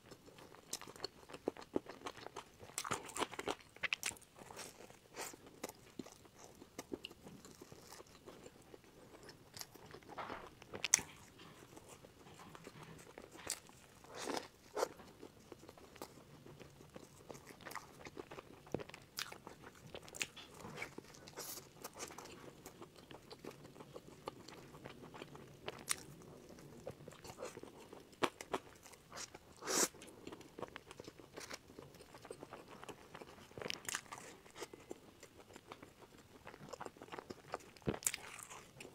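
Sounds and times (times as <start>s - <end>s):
biting and chewing bread: 0.0s - 38.9s.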